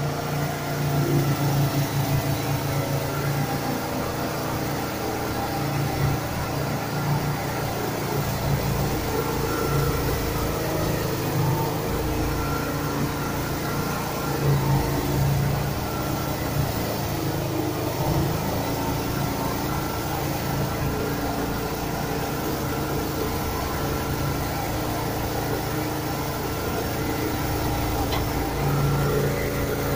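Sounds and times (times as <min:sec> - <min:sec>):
machine humming: 0:00.0 - 0:29.9.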